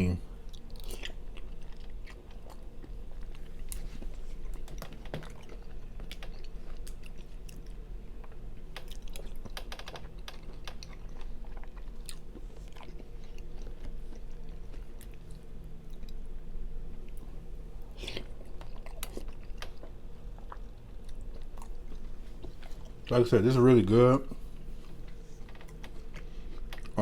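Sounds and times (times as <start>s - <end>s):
chewing and wet mouth sounds: 0.0s - 27.0s.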